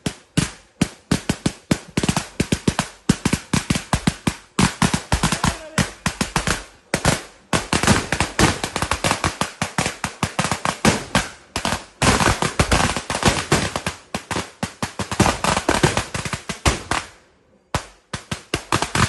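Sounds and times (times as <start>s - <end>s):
firecrackers banging: 0.0s - 19.0s.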